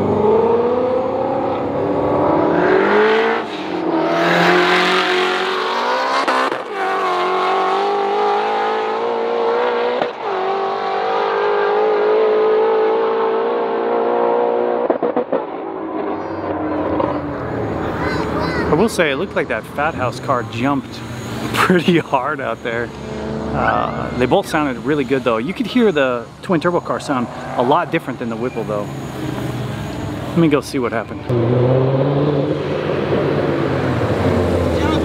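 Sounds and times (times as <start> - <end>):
car engines accelerating hard: 0.0 - 35.0.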